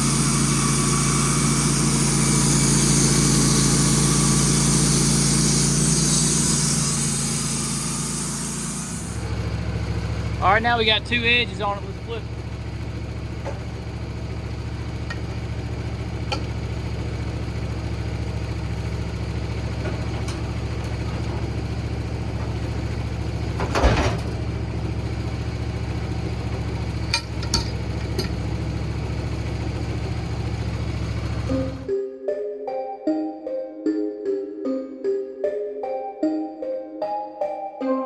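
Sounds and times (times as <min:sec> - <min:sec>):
sawmill engine idling: 0:00.0 - 0:31.9.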